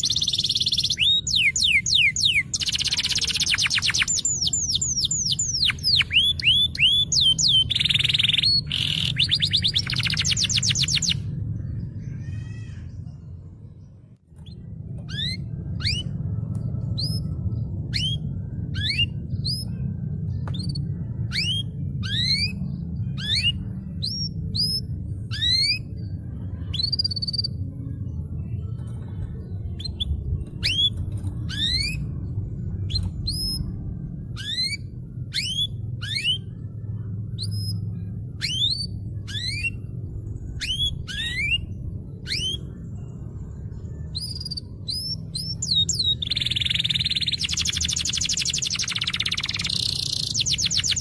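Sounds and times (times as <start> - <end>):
canary trilling: 0.0 - 13.1, 14.4 - 16.3, 20.6 - 27.6, 29.7 - 36.6, 37.4 - 42.9, 44.1 - 51.0
steady low hum: 0.0 - 51.0.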